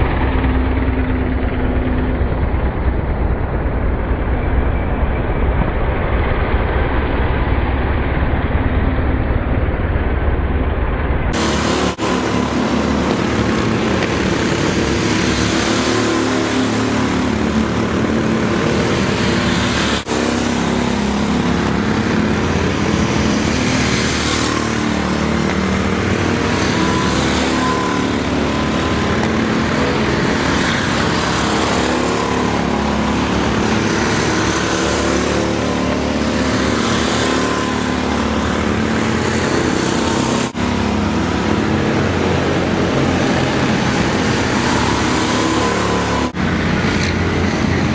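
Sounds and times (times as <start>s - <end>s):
go-kart engines racing: 0.0s - 9.0s, 11.3s - 47.9s.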